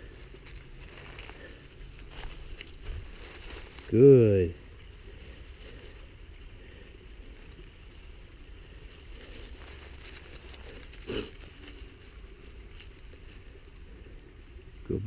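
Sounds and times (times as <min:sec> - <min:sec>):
rustling and footfalls on forest floor: 0:00.0 - 0:14.3.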